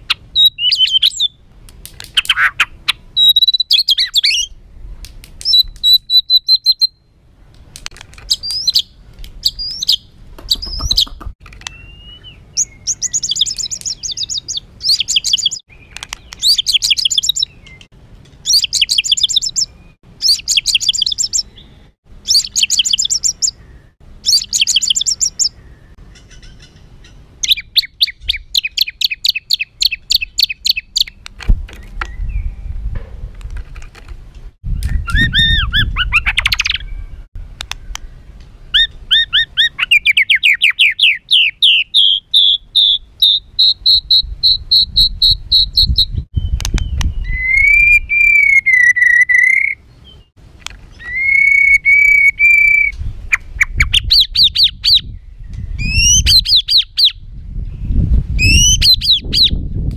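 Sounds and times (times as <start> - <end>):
bird singing harsh song: 0.0 - 4.6, 5.4 - 7.2, 8.2 - 32.9, 34.6 - 59.9.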